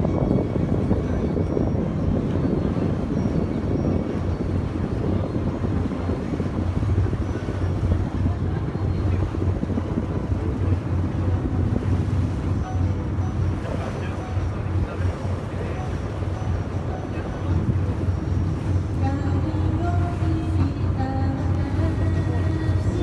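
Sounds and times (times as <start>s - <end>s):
boat engine drone: 0.0s - 23.0s
wind buffeting microphone: 0.0s - 23.0s.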